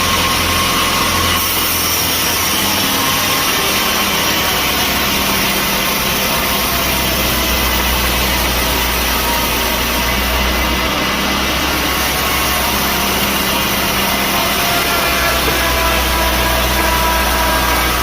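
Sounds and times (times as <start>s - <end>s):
sawmill machinery humming: 0.0s - 18.0s.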